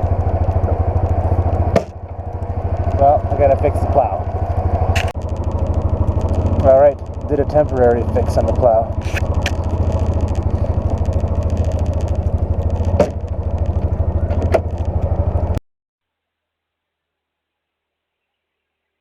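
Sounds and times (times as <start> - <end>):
vehicle engine running: 0.0 - 15.6.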